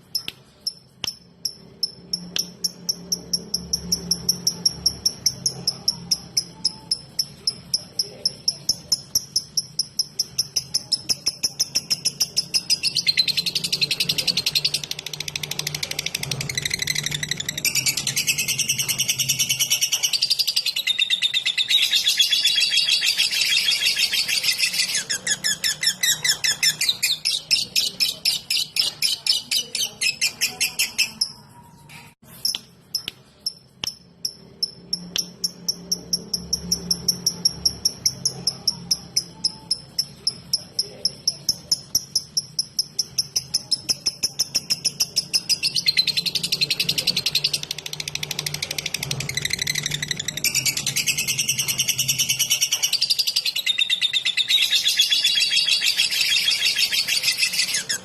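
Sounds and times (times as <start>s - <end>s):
bird fast high chatter: 2.8s - 32.2s, 35.6s - 58.0s.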